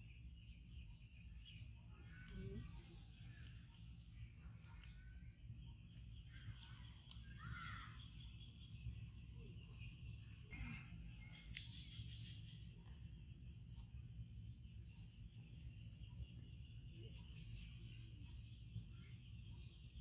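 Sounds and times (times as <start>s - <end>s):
faint chirps: 0.0s - 20.0s.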